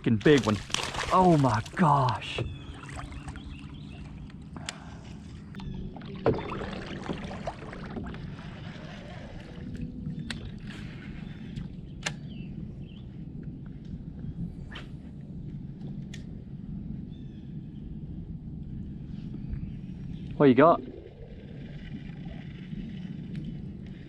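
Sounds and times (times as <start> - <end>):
steady low rumble: 0.0 - 24.0
water around kayak hull: 0.0 - 24.0.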